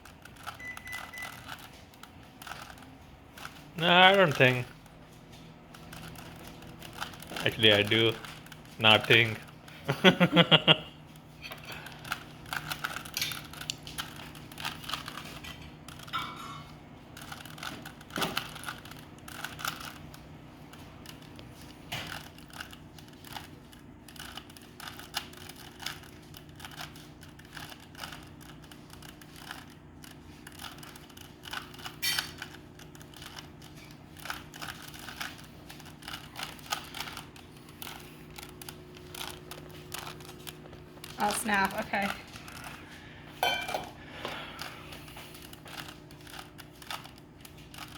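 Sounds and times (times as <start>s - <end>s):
puzzle cube clicking and rattling: 0.0s - 43.0s, 44.4s - 47.9s.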